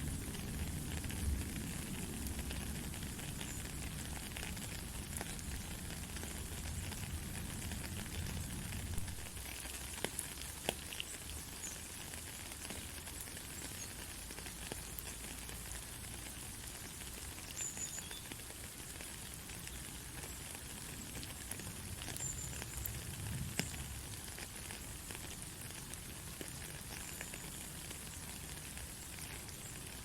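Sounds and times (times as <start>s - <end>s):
raindrop ticks: 0.0s - 30.0s
steady rain hissing: 0.0s - 30.0s.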